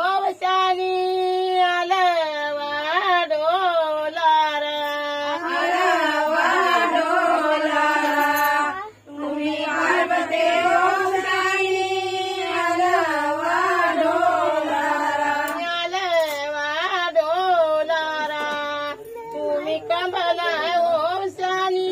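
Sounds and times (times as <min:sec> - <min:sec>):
women singing a devotional song: 0:00.0 - 0:21.9.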